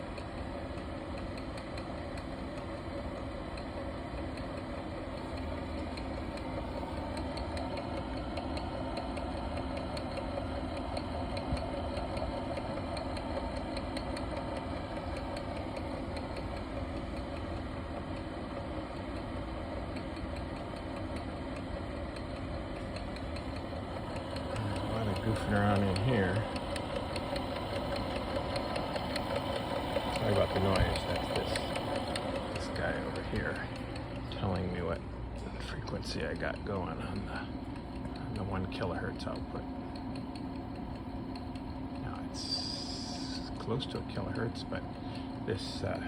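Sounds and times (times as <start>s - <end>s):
test equipment humming and whirring: 0.0s - 46.0s.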